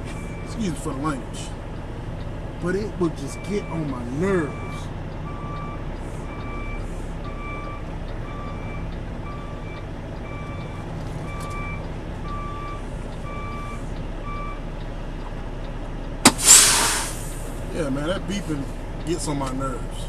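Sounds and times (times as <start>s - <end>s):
truck engine rumbling: 0.0s - 20.0s
truck reversing alarm beeping: 0.0s - 20.0s.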